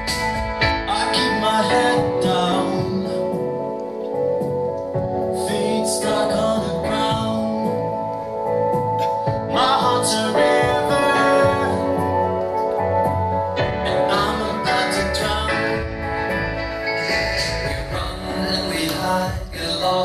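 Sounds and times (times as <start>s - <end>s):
person singing: 0.0s - 4.1s, 5.3s - 20.0s
guitar: 0.0s - 20.0s
live band playing: 0.0s - 20.0s.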